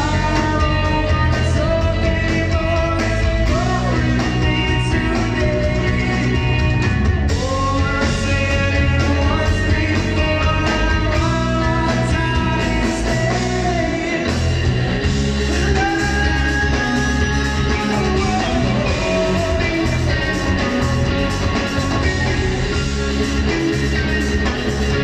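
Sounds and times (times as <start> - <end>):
person singing: 0.0 - 14.5, 15.4 - 25.0
bass guitar: 0.0 - 25.0
drum kit: 0.0 - 25.0
electric guitars: 0.0 - 25.0.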